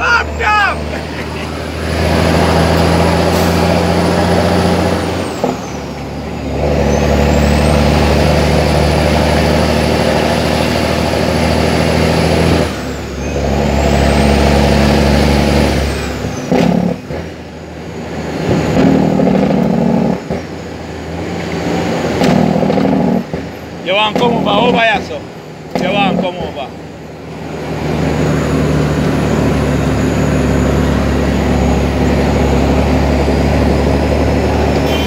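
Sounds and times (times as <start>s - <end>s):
truck engine pulling under load: 0.0s - 35.0s.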